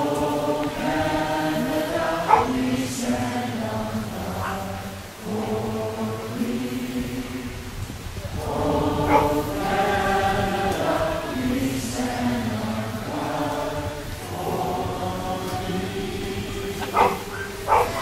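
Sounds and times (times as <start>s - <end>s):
crowd singing in unison: 0.0s - 18.0s.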